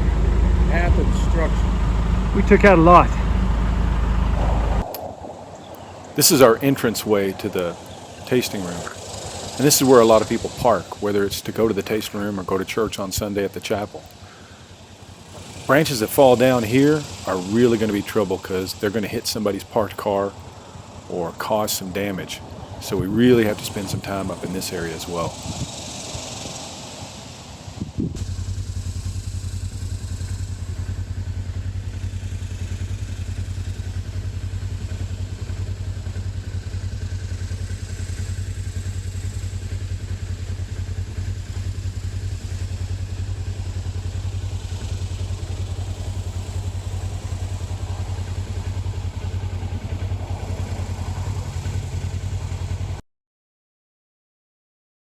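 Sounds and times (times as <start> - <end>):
engine droning: 0.0 - 53.0.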